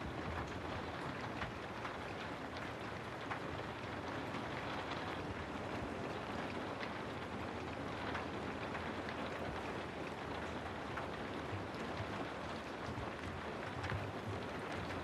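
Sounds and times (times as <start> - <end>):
raindrops ticking: 0.0 - 15.0.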